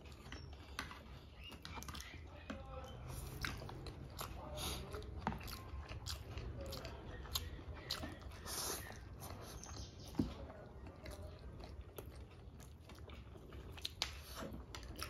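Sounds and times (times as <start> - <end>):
chewing and slurping noodles: 0.0 - 15.0.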